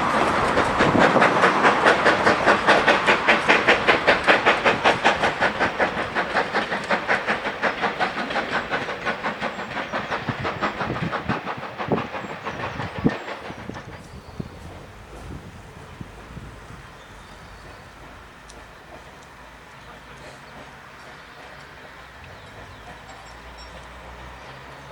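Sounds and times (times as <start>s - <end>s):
low knocks from train: 0.0s - 23.9s
steam locomotive exhaust beats: 0.0s - 24.9s.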